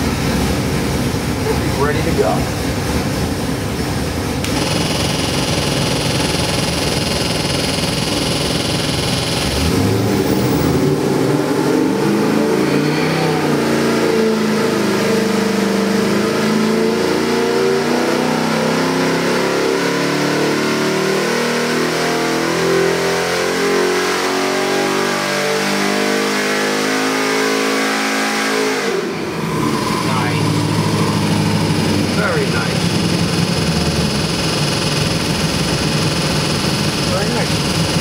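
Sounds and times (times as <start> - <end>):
engine revving on dyno: 0.0 - 38.0.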